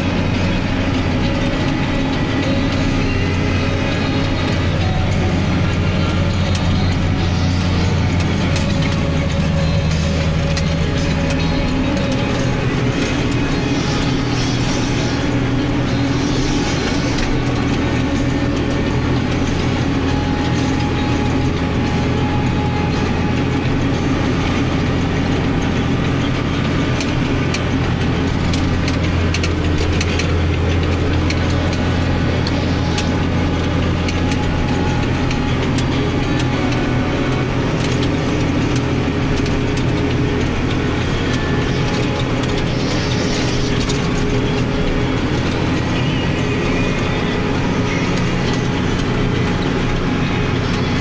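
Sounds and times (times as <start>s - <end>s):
cab and machinery rattles: 0.0s - 51.0s
tractor diesel engine under load: 0.0s - 51.0s.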